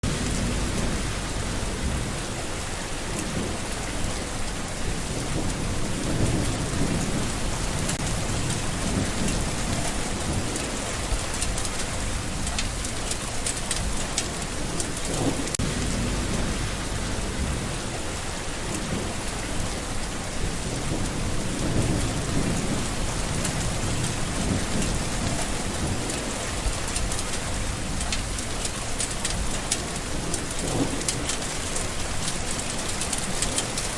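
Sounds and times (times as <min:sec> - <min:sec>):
raindrop ticks: 0:00.0 - 0:33.9
rolling thunder: 0:00.0 - 0:33.9
steady rain: 0:00.0 - 0:33.9.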